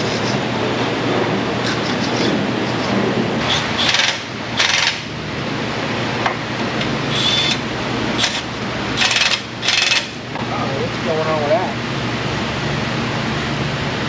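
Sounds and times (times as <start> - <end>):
workshop background noise: 0.0 - 12.0.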